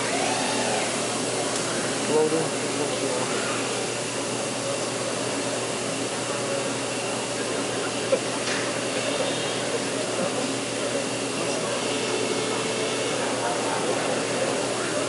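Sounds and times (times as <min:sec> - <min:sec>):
robotic machine whirring hum: 0:00.0 - 0:15.0.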